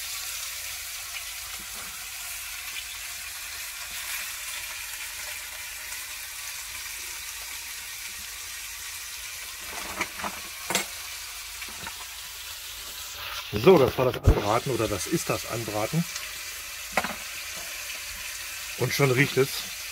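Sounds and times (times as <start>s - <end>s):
meat sizzling in hot fat: 0.0s - 19.9s.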